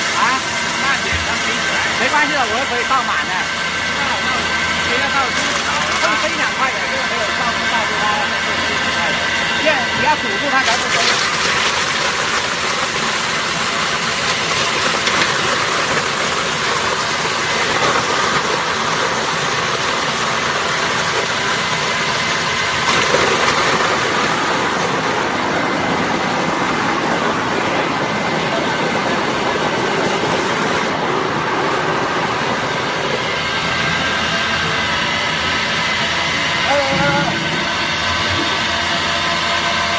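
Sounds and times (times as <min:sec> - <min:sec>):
grinding machine running: 0:00.0 - 0:39.9.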